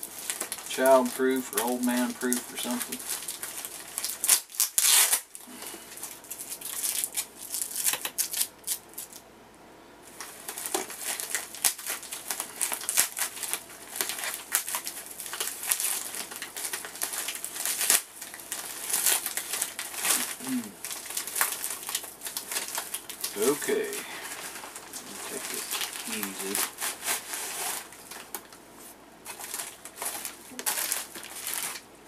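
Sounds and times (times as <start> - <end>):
envelope crinkling and rustling: 0.0 - 9.2, 10.1 - 31.9.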